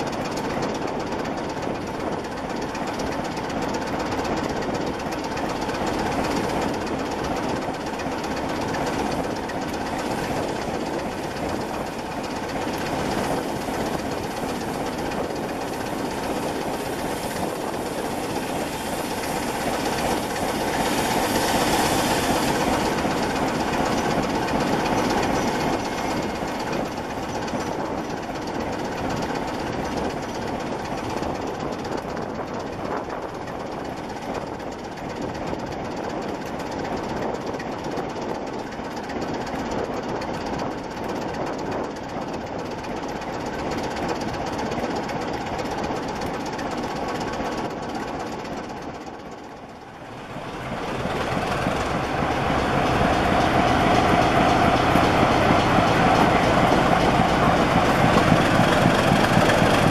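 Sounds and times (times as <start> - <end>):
diesel locomotive engine running: 0.0 - 59.9
train coaches rolling on rails: 0.0 - 59.9.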